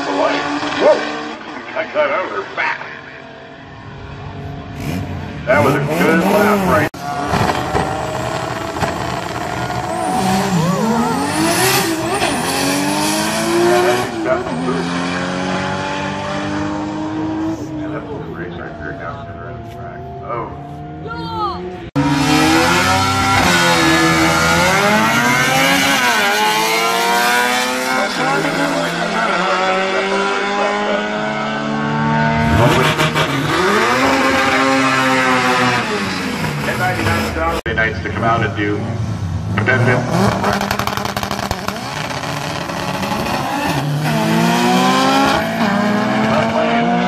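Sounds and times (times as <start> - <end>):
race car engine accelerating: 3.9 - 21.0, 21.6 - 47.0.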